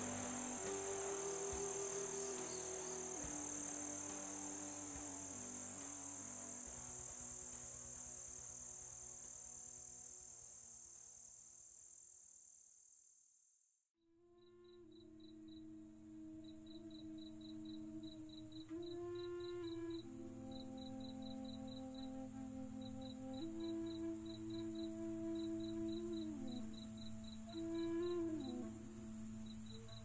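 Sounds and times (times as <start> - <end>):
faint held low notes: 0.0 - 10.6, 14.4 - 30.0
crickets chirring: 0.0 - 13.3, 14.9 - 30.0.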